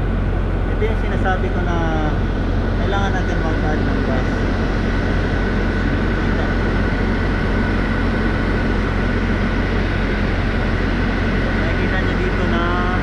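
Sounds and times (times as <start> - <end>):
air conditioning running: 0.0 - 13.0
bus engine humming: 0.0 - 13.0
steady high whine: 0.0 - 13.0.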